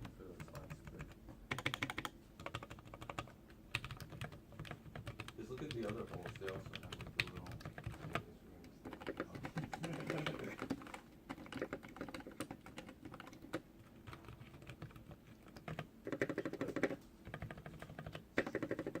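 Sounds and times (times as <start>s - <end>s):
mechanical keyboard typing: 0.0s - 19.0s.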